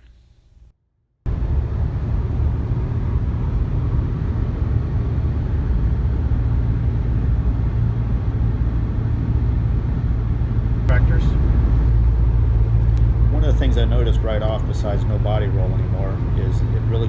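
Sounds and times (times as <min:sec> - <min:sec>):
minivan tyres and engine rumble: 0:01.3 - 0:17.0.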